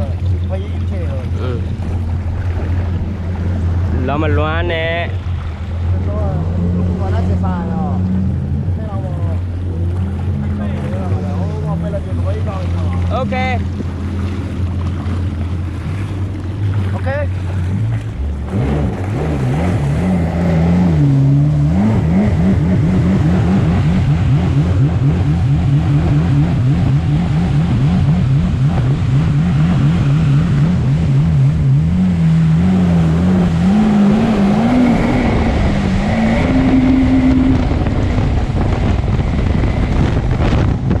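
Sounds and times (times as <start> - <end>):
jet ski engine running: 0.0 - 41.0.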